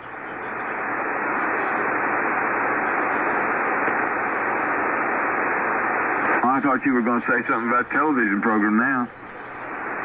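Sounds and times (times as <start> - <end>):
shortwave radio hiss: 0.0 - 10.0.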